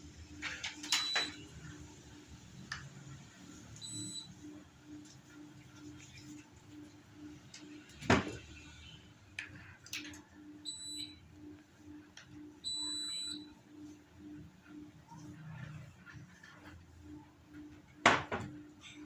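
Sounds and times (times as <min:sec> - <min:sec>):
air conditioner beeping: 0:00.0 - 0:19.0.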